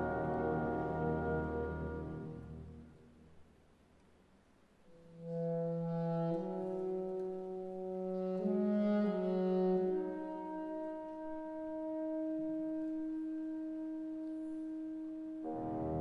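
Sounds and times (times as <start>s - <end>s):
orchestral wind instruments: 0.0s - 3.2s, 4.9s - 16.0s.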